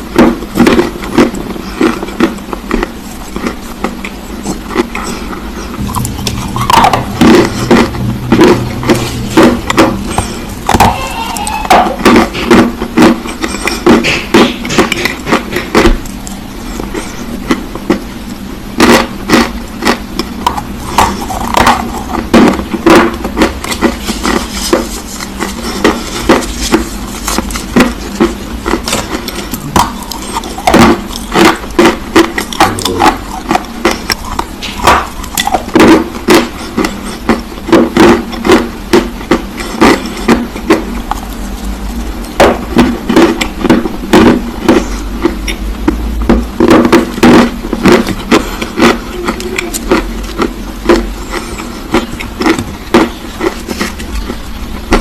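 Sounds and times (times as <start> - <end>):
clay being bitten and chewed: 0.0 - 55.0.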